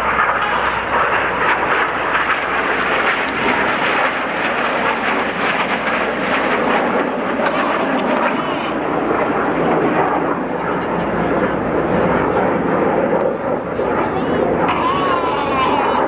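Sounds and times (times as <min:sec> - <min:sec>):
jet aircraft roaring overhead: 0:00.0 - 0:16.0.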